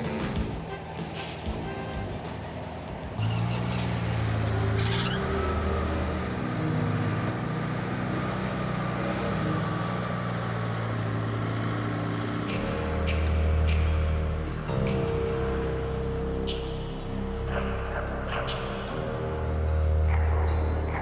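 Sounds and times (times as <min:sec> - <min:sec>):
coach engine droning: 0:00.0 - 0:21.0.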